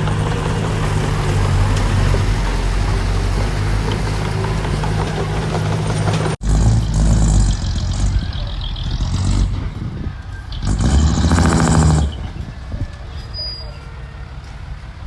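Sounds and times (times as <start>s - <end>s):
heavy machinery engines running: 0.0s - 15.0s.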